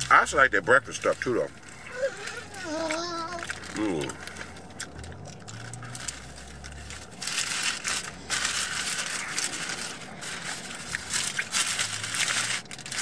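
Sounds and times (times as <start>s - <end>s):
paper wrappers crinkling: 0.0s - 13.0s.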